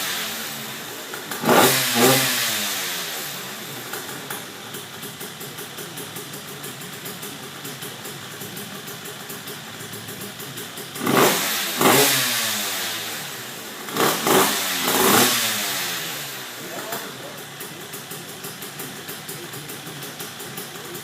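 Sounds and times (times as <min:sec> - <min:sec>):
two-stroke engine idling and revving: 0:00.0 - 0:21.0.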